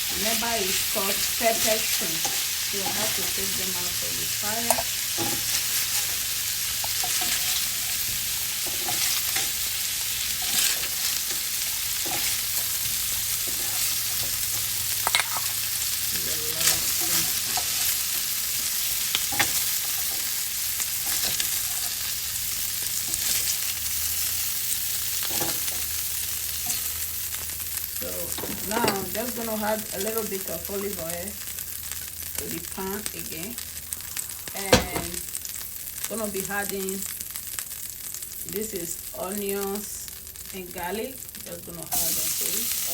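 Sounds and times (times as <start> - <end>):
shrimp sizzling in a frying pan: 0.0 - 42.9.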